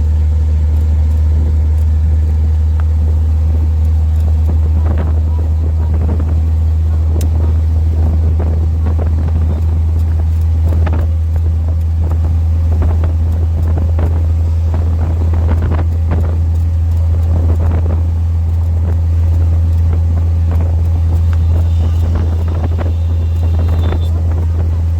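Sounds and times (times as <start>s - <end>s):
road vehicle rumble: 0.0s - 24.9s
wind noise on microphone: 0.0s - 24.9s.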